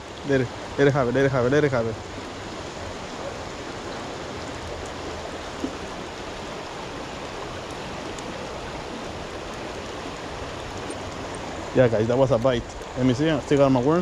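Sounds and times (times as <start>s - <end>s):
river flowing over rocks: 0.0s - 14.0s.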